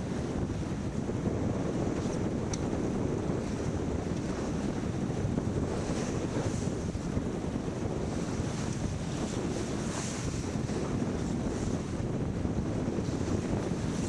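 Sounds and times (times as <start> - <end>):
water washing against boat: 0.0 - 14.0
wind buffeting microphone: 0.0 - 14.0.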